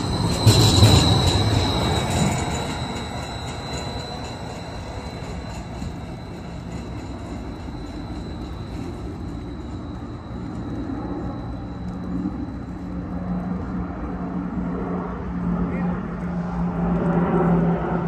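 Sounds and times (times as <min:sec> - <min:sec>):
steady low hum: 0:00.0 - 0:18.0
streetcar high whine: 0:00.0 - 0:18.0.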